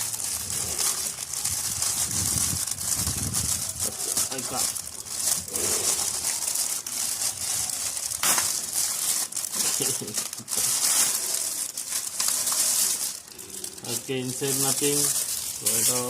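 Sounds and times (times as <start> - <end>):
plastic packaging crinkling and tearing: 0.0 - 16.0.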